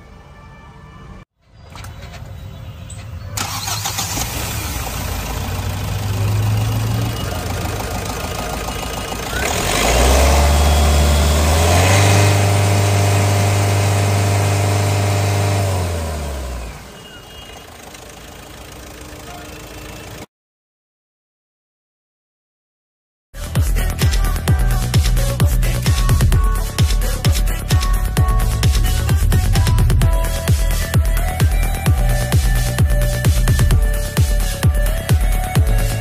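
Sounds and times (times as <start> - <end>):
diesel engine revving: 3.4 - 20.3, 23.4 - 36.0.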